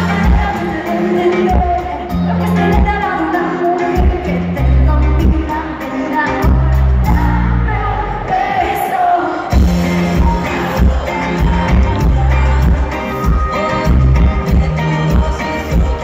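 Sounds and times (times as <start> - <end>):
electric bass guitar: 0.0 - 8.3, 9.5 - 16.0
drums: 0.0 - 16.0
woman singing lead: 0.0 - 16.0.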